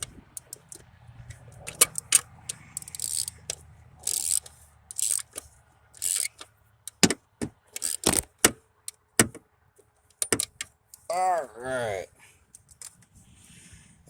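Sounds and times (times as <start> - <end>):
clicks and knocks of parts: 0.0 - 11.1, 12.5 - 13.1.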